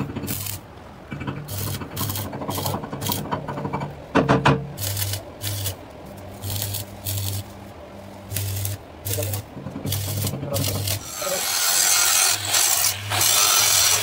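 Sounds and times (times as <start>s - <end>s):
welding arc crackling and hissing: 0.0s - 3.3s, 4.8s - 14.0s.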